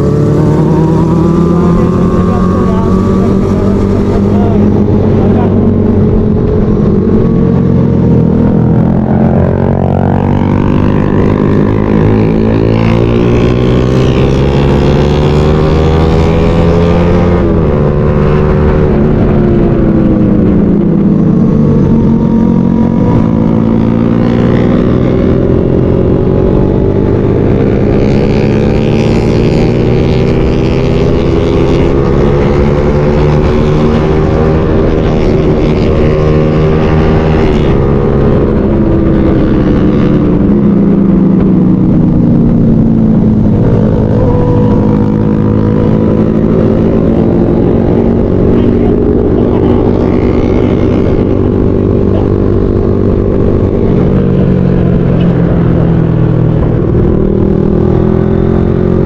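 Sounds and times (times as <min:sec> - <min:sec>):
motorcycle engine: 0:00.0 - 0:59.0
road and wind noise: 0:00.0 - 0:59.0.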